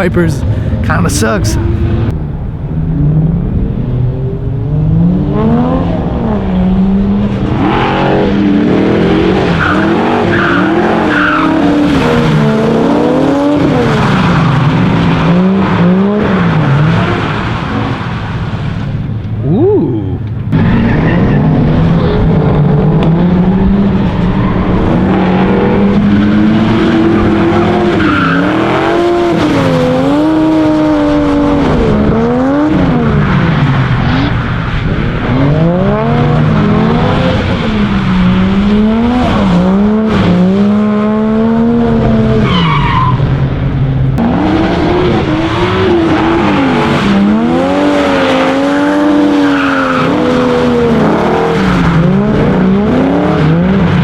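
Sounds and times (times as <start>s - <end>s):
car engine revving: 0.0s - 54.0s
tyres skidding and squealing: 2.9s - 54.0s.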